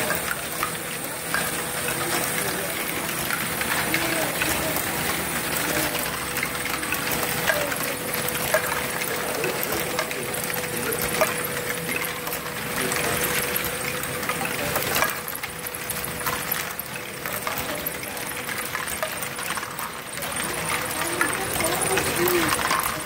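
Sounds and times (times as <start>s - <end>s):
plastic gears and balls clattering: 0.0s - 23.0s.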